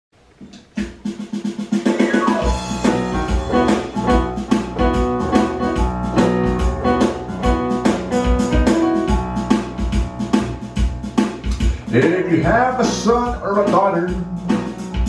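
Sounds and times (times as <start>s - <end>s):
keyboard music with drums and bass: 0.8s - 15.0s.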